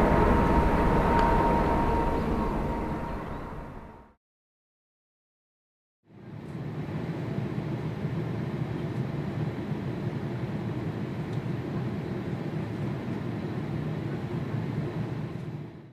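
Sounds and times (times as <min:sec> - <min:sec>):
airliner cabin roar: 0:00.0 - 0:04.2, 0:06.2 - 0:15.9.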